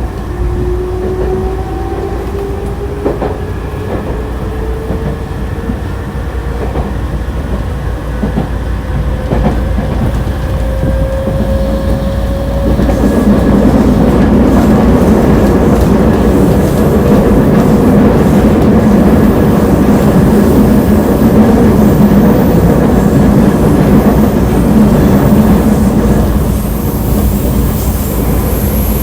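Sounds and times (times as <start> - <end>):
electric train rumbling on rails: 0.0 - 29.0
wheels clickety-clack: 1.0 - 5.9, 6.5 - 29.0.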